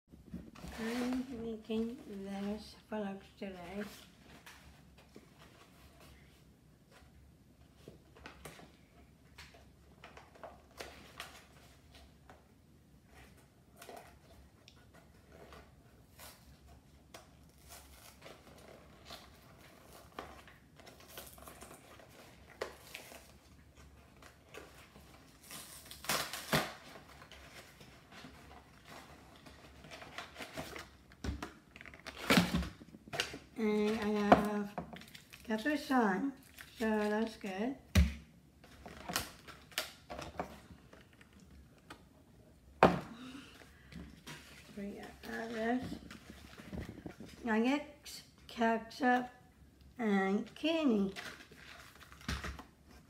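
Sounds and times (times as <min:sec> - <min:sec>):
plastic crinkling and rustling: 0:00.3 - 0:37.9, 0:38.6 - 0:48.5, 0:50.5 - 0:53.0.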